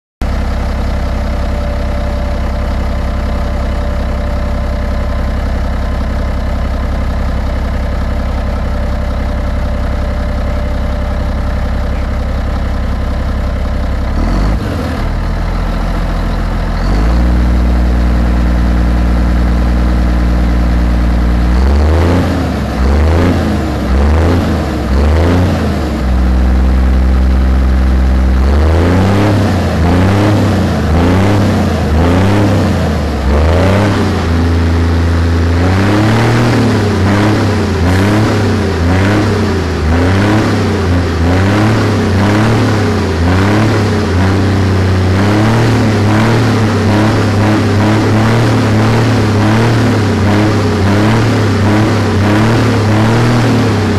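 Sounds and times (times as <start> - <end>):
diesel truck engine revving: 0.2 - 53.9.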